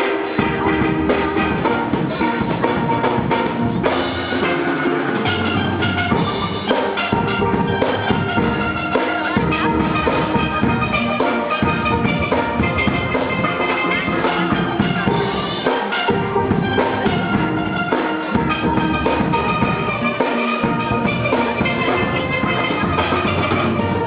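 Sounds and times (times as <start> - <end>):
drum kit beat: 0.0 - 24.0
steel pans playing tune: 0.0 - 24.0.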